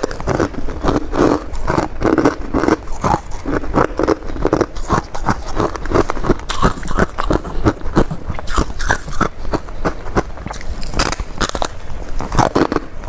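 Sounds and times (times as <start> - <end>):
chewing crunchy frost: 0.0 - 13.0.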